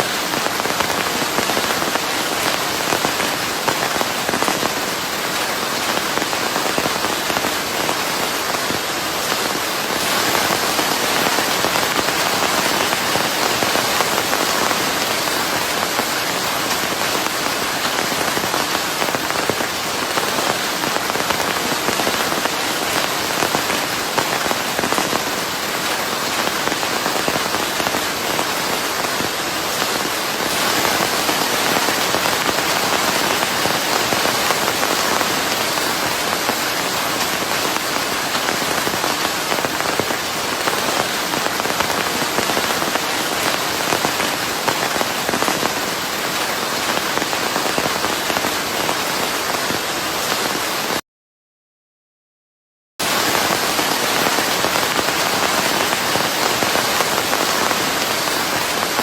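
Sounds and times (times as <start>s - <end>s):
steady rain: 0.0s - 51.0s, 53.0s - 59.0s.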